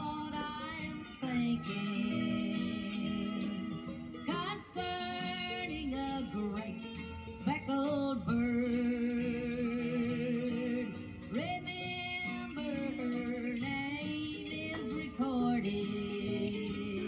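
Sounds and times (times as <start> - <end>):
instrumental backing with guitar: 0.0 - 17.0
person singing with vibrato: 0.0 - 17.0.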